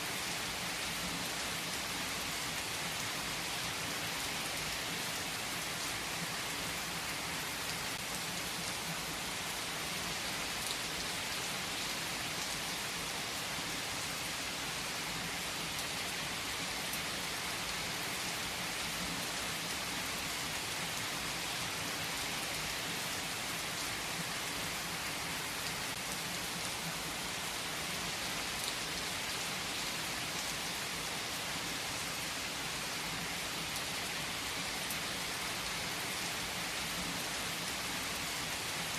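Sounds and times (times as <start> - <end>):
rain on surfaces: 0.0 - 38.9.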